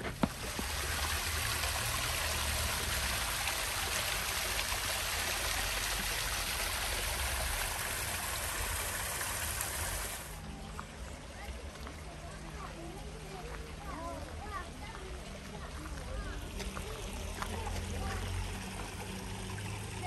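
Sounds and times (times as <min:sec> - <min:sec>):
stream of water running: 0:00.0 - 0:20.0.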